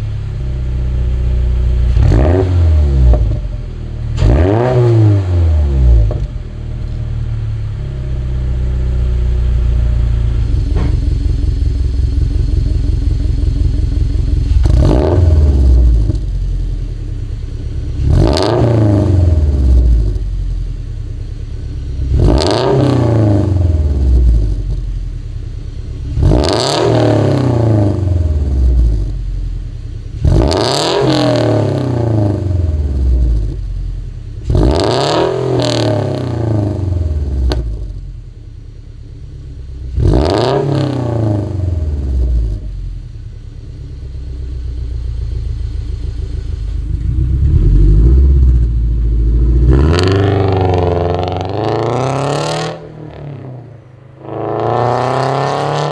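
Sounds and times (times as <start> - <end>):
engine idling with uneven rumble: 0.0 - 4.3, 5.5 - 26.5, 27.2 - 30.5, 31.6 - 34.7, 36.0 - 40.2, 41.0 - 51.9
car engine revving: 0.0 - 55.9.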